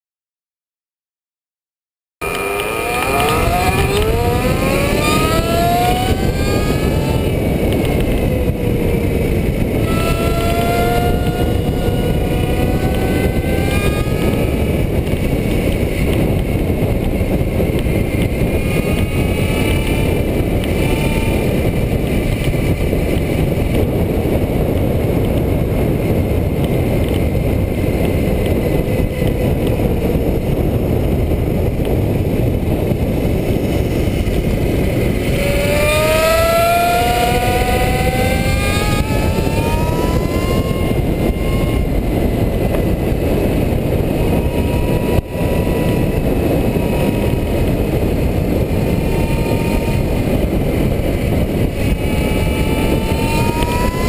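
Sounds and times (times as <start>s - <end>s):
electric bicycle motor whining: 2.2s - 54.0s
wind rushing on microphone: 2.2s - 54.0s.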